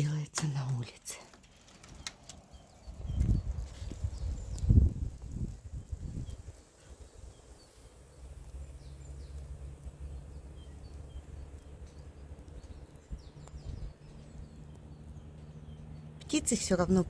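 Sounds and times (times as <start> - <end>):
songbird chirps: 0.0 - 17.0
wind rumble on microphone: 1.9 - 17.0.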